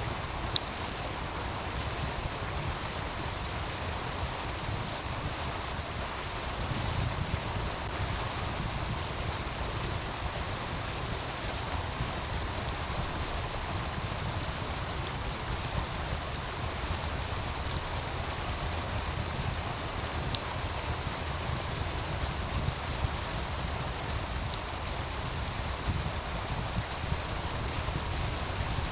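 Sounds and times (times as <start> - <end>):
wind rumble on microphone: 0.0 - 28.9
wood fire crackling: 0.0 - 28.9.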